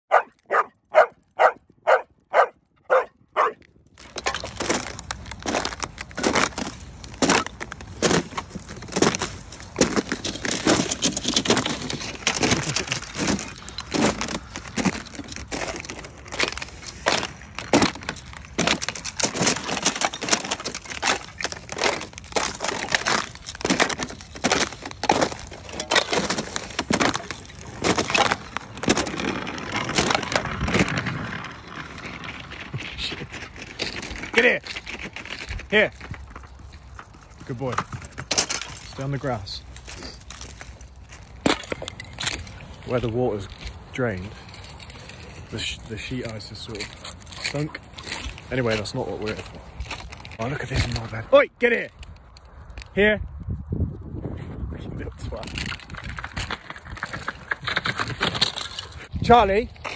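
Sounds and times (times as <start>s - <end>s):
boots crunching through ice: 0.1s - 51.9s
ice cracking and breaking: 3.8s - 53.0s, 55.0s - 59.9s.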